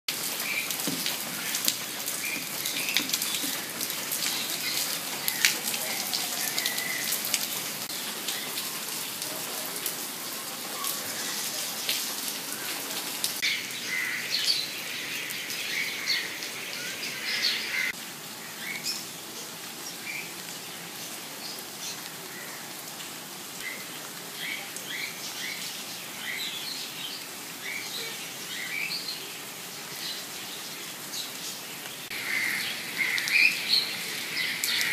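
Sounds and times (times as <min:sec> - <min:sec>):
rain falling on leaves: 0:00.1 - 0:34.9.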